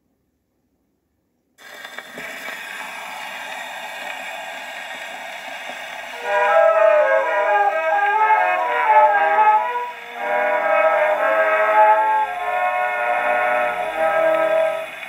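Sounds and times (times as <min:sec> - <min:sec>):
record surface hiss and crackle: 0:00.0 - 0:15.0
recorded music from gramophone: 0:01.6 - 0:15.0.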